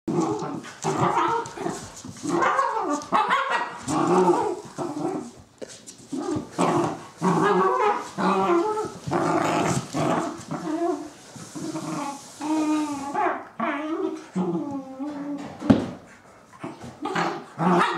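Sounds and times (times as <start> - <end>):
puppies growling and barking: 0.1 - 5.5, 6.1 - 15.7, 16.6 - 17.9.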